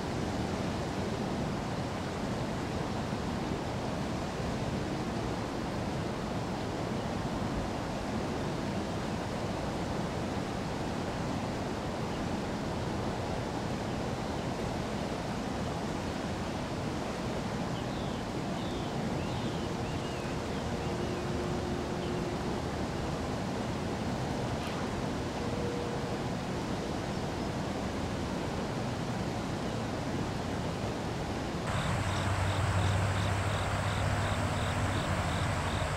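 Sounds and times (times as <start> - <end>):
flowing river water: 0.0 - 35.9.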